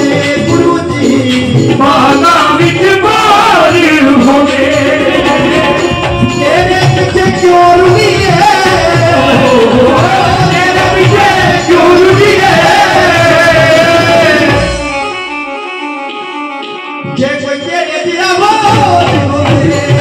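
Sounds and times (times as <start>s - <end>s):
men singing into microphones: 0.0s - 15.4s, 17.0s - 20.0s
amplified music with drum beat: 0.0s - 20.0s.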